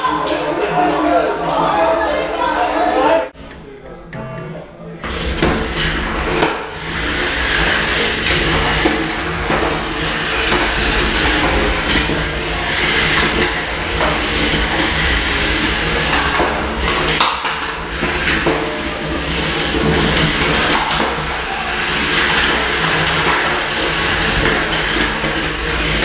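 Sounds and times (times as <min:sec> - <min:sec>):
steady hum: 0:02.1 - 0:26.0
electric motors whining: 0:05.0 - 0:26.0.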